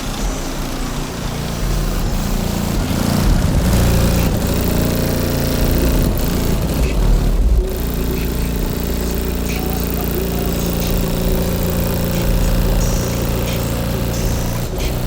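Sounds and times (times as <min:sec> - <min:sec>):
distorted subwoofer bass: 0:00.0 - 0:15.0.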